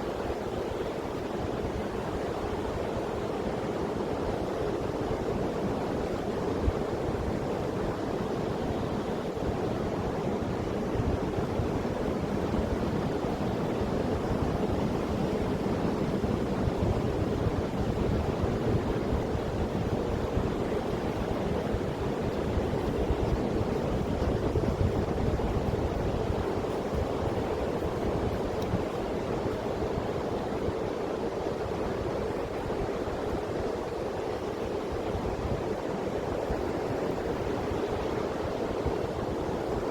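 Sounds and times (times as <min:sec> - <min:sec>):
sea surf washing onto beach: 0:00.0 - 0:39.9
wind rumble on microphone: 0:00.0 - 0:39.9.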